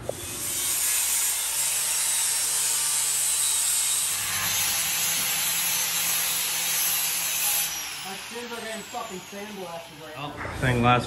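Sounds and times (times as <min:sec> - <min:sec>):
angle grinder grinding metal: 0:00.0 - 0:10.3.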